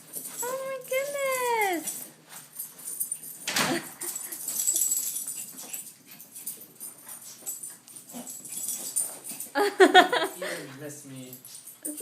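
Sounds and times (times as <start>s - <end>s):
dogs scuffling and snuffling: 0.0s - 9.6s, 10.6s - 12.0s.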